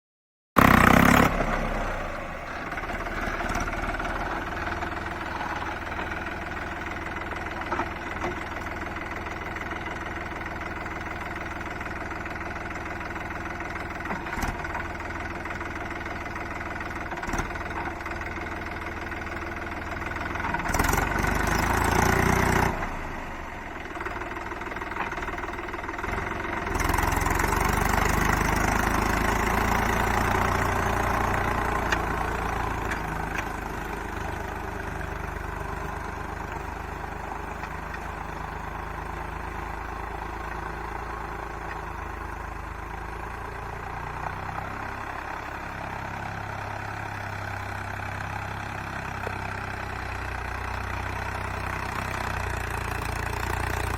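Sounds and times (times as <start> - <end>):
tractor diesel engine idling: 0.6 - 53.9.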